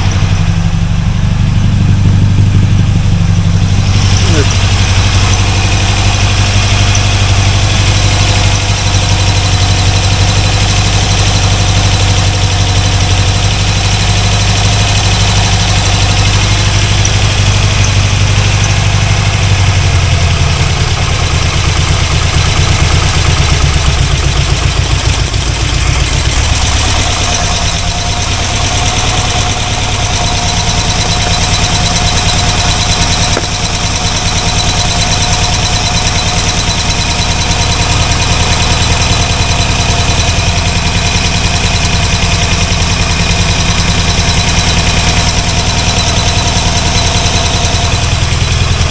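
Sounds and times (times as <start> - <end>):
engine idling loudly: 0.0 - 48.9.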